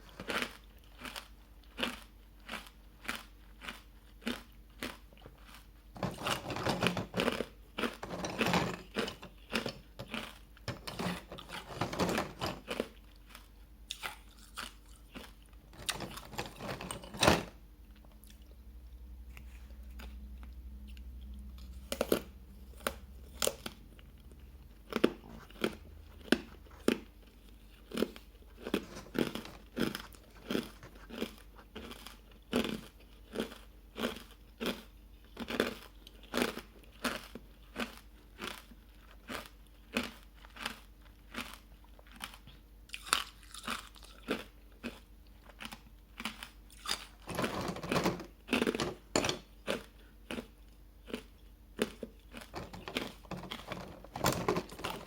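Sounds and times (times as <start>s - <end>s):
ice being chewed crunching: 0.0s - 17.1s, 19.9s - 55.0s.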